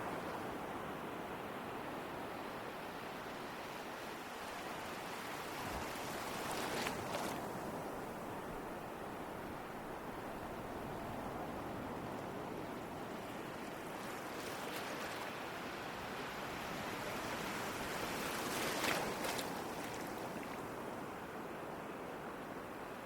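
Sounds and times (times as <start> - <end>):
ocean waves washing: 0.0 - 21.2.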